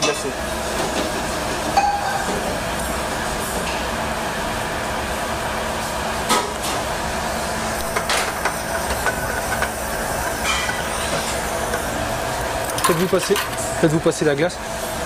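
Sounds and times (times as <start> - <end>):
steady hissing kitchen noise: 0.0 - 15.0.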